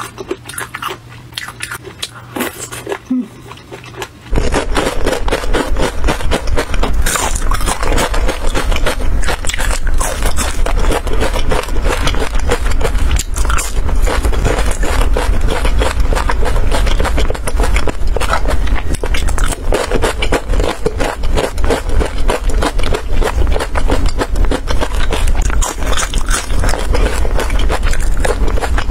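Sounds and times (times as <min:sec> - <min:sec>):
crunching and chewing fried food: 0:00.0 - 0:28.9
steady low rumble: 0:04.2 - 0:28.9.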